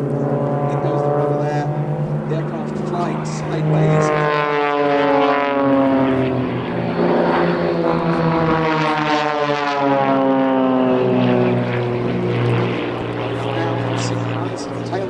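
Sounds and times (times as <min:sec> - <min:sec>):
propeller planes droning: 0:00.0 - 0:15.0.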